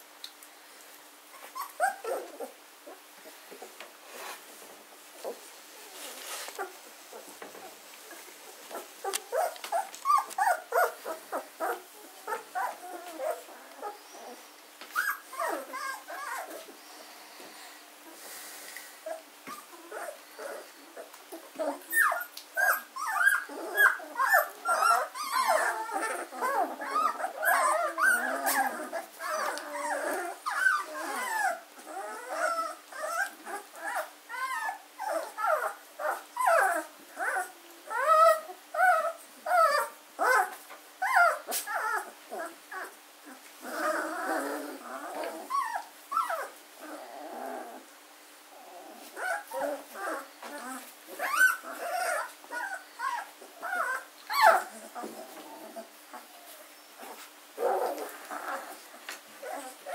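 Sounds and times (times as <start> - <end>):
puppies whining and squeaking: 1.3 - 3.0, 6.2 - 17.0, 19.0 - 47.8, 48.7 - 59.9.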